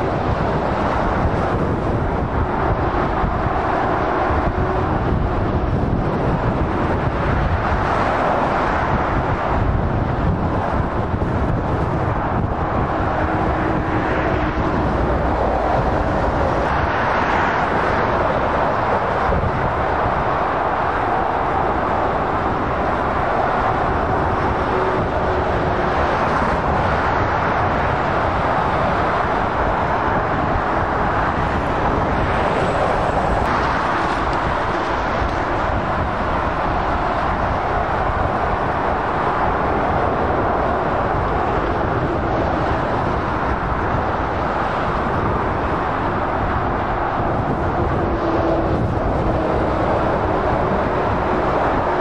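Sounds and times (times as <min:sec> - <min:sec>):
motorway traffic: 0:00.0 - 0:52.0.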